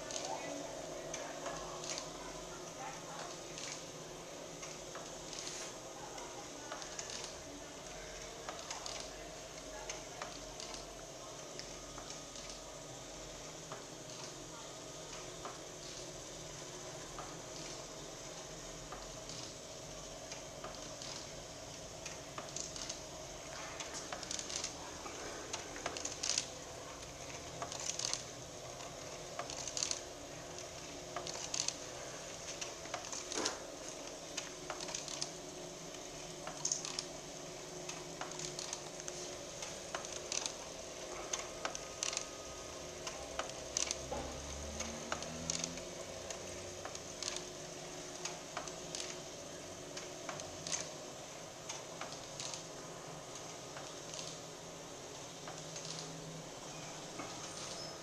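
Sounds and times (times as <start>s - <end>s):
irregular crackles and clicks: 0.0s - 57.9s
steady low hum: 0.0s - 58.0s.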